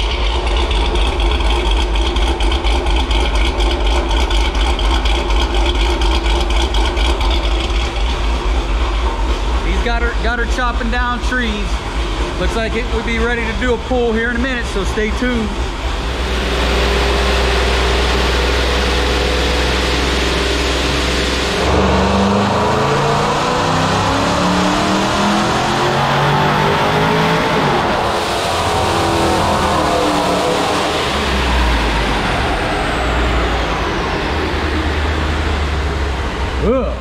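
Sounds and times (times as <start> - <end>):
car engine revving on a dyno: 0.0 - 37.0
supercharger whine: 0.0 - 37.0.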